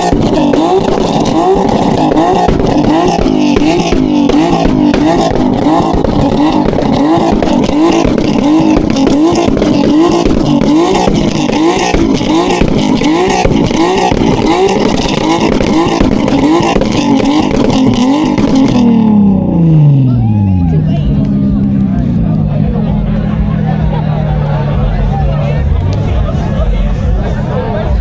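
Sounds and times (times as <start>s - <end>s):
car engine revving: 0.0s - 28.0s
exhaust crackling rasp: 0.0s - 28.0s.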